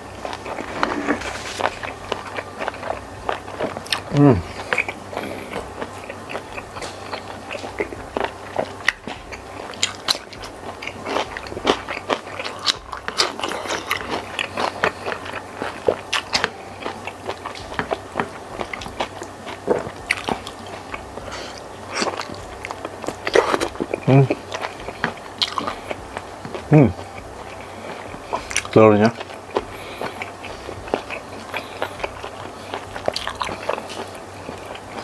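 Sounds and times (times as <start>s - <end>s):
person chewing with mouth smacks: 0.0s - 35.0s.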